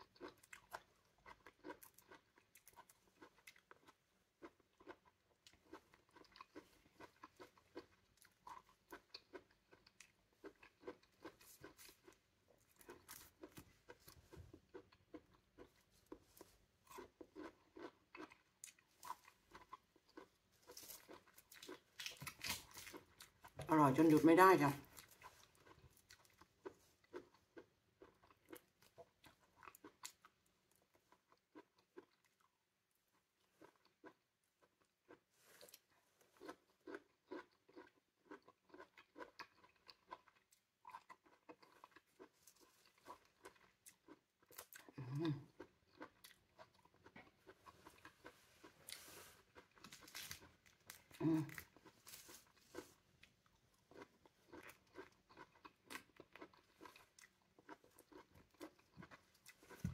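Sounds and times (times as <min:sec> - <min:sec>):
person chewing fruit: 0:00.0 - 0:59.9.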